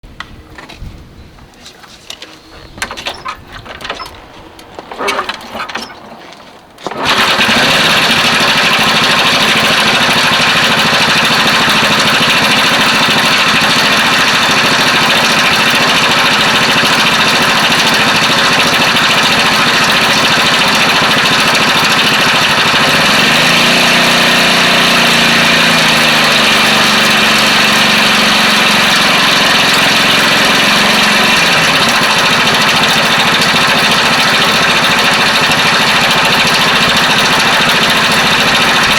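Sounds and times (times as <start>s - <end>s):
motorcycle engine with cam chain noise: 2.7s - 38.9s.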